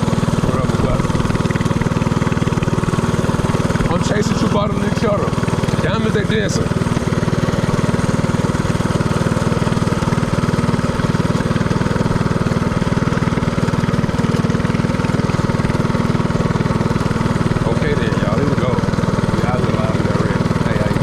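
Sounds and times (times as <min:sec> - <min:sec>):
minibike engine running: 0:00.0 - 0:21.0.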